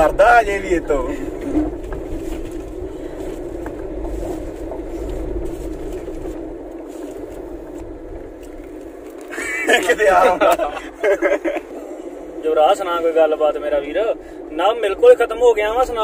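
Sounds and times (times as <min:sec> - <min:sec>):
car cabin engine and road hum: 0:00.0 - 0:16.0.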